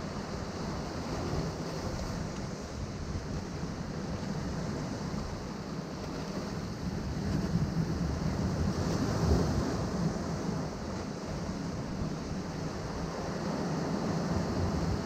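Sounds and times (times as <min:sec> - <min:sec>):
ocean waves breaking on rocks: 0:00.1 - 0:15.0.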